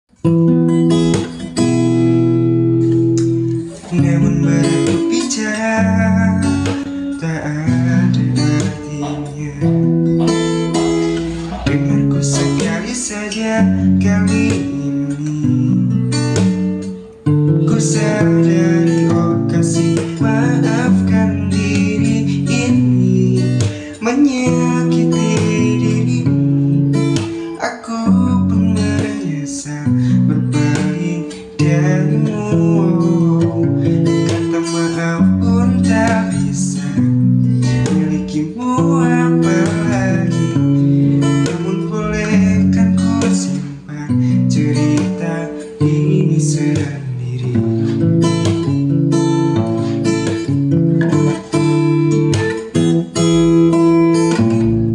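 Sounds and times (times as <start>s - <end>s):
acoustic guitar strumming chords: 0.1s - 54.9s.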